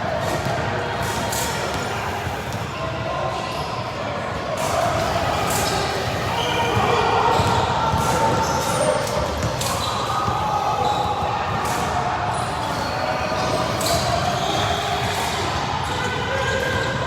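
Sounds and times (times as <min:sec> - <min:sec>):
crowd and player voices: 0:00.0 - 0:17.0.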